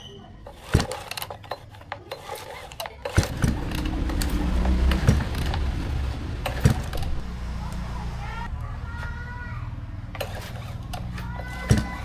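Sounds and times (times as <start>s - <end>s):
clicks and knocks: 0.0s - 8.6s, 10.1s - 12.0s
small two-stroke engine running: 0.4s - 9.0s, 9.6s - 12.0s.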